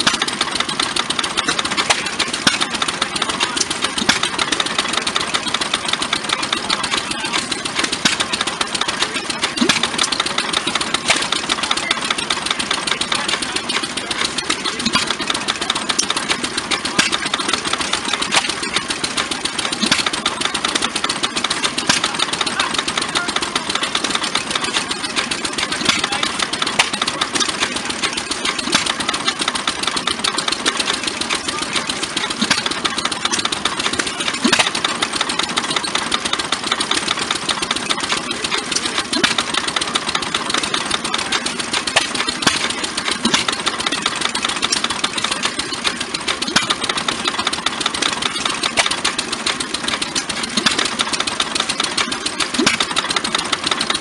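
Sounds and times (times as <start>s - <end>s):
gas engines clattering: 0.0s - 54.0s.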